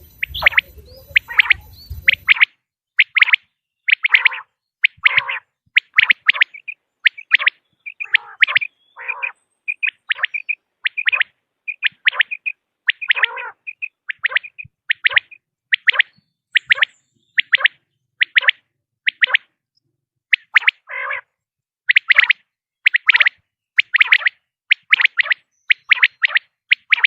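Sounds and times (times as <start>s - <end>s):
quail calling: 0.0s - 19.5s, 20.3s - 27.0s.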